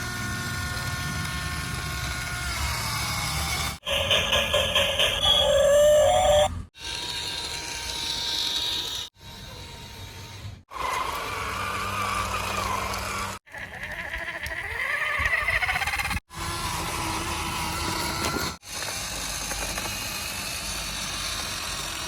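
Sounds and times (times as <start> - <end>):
motor whirring: 0.0 - 22.0.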